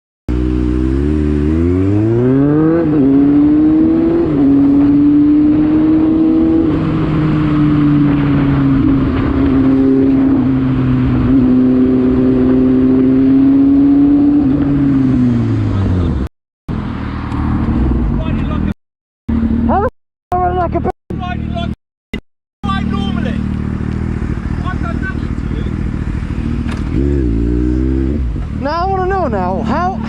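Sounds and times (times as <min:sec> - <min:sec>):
motorcycle engine accelerating: 0:00.3 - 0:21.8, 0:22.6 - 0:30.0.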